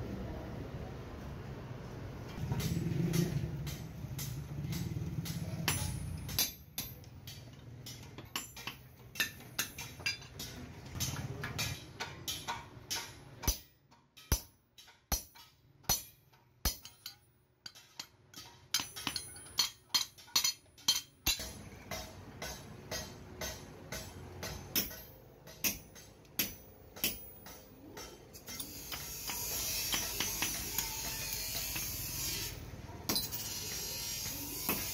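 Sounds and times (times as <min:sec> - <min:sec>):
hammer striking metal punch: 0:02.4 - 0:34.9.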